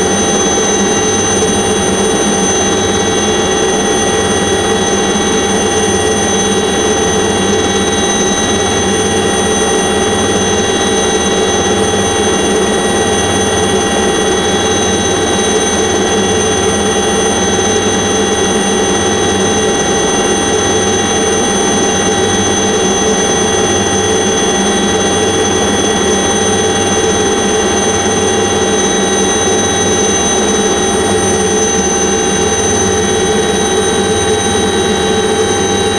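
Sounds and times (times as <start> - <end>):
aircraft engine drone: 0.0 - 35.9.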